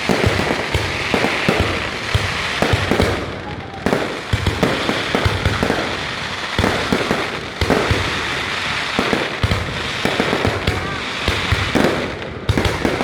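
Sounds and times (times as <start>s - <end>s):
fireworks booming bursts: 0.0s - 13.0s
fireworks crackling: 0.0s - 13.0s.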